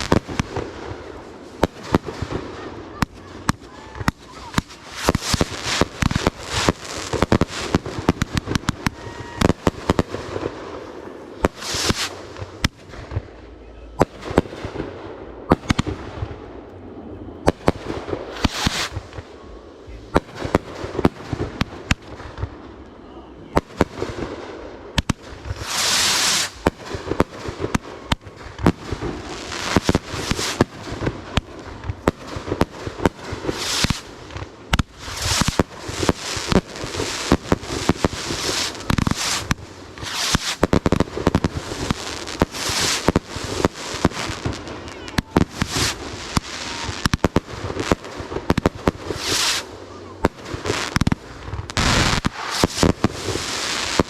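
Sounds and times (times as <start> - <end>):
fireworks hissing: 0.0 - 13.4, 17.4 - 22.4, 25.0 - 54.0
fireworks bangs and cracks: 0.0 - 16.8, 17.4 - 22.8, 23.5 - 54.0.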